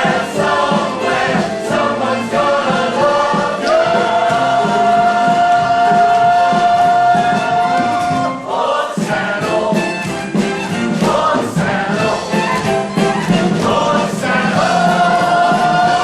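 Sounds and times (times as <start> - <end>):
chorus singing: 0.0 - 16.0
instrumental accompaniment: 0.0 - 16.0.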